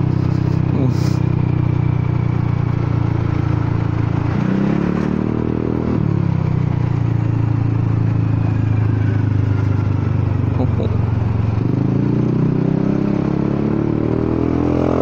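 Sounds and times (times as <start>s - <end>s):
higher engine note climbing: 0.0s - 15.0s
scooter engine running: 0.0s - 15.0s.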